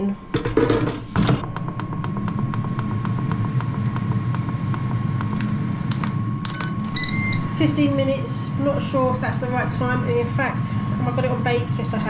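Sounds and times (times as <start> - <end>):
air fryer fan humming: 0.0 - 12.0.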